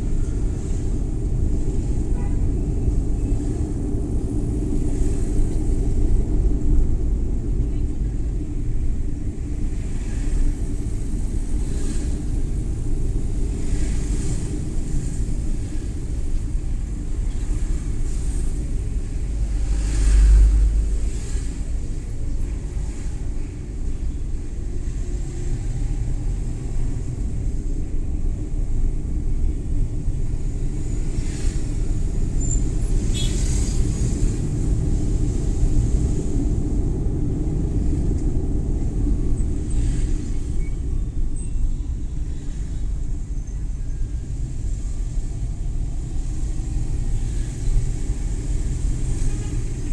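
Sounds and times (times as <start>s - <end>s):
van engine and road rumble: 0.0s - 49.9s.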